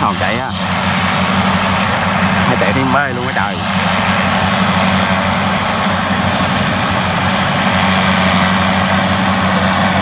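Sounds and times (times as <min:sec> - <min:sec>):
diesel engine drone: 0:00.0 - 0:10.0
harvester mechanical noise: 0:00.0 - 0:10.0.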